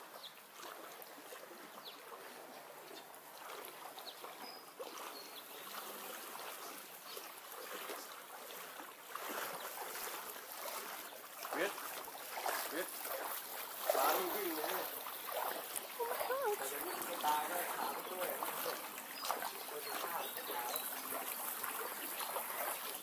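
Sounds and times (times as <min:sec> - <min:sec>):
flood water sloshing and trickling: 0:00.0 - 0:23.0.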